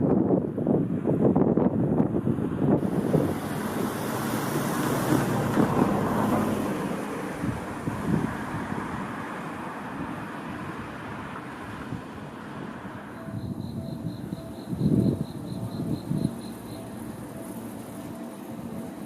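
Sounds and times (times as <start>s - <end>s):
wind on microphone: 0.0s - 17.4s
train rumbling past: 2.8s - 19.0s.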